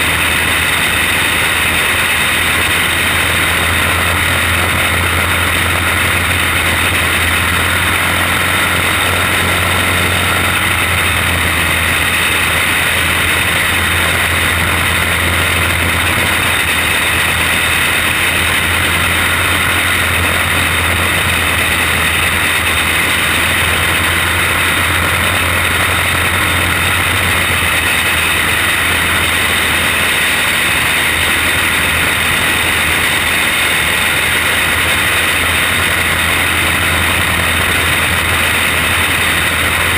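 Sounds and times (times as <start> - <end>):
racing kart engine drone: 0.0 - 39.9.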